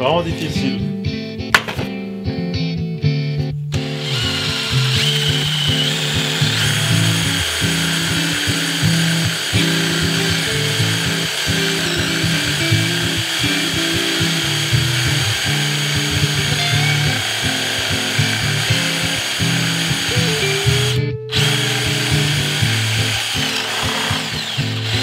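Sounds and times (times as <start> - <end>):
background music: 0.0 - 25.0
cordless drill boring into wood: 3.7 - 25.0.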